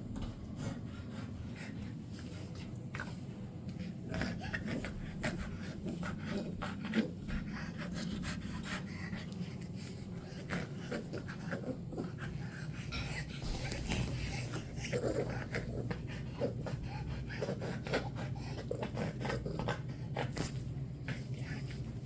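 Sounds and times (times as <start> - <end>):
dog panting: 0.1 - 22.0.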